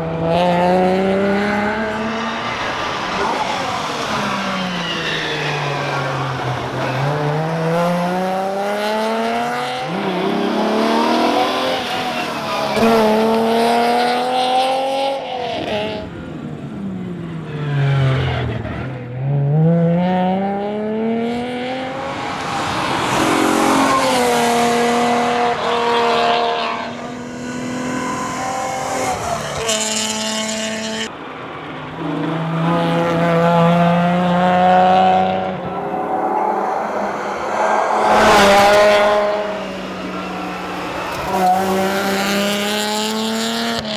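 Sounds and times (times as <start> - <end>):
car engine revving: 0.0 - 31.1, 31.8 - 43.9.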